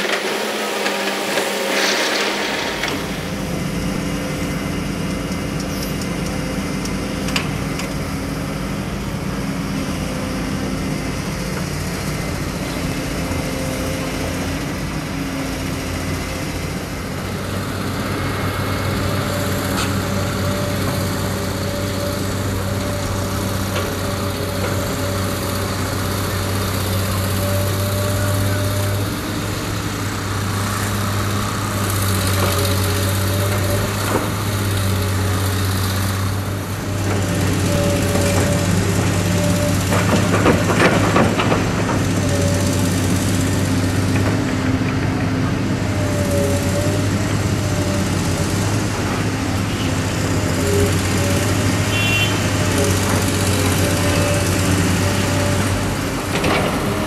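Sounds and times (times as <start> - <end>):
excavator diesel engines: 0.0 - 57.0.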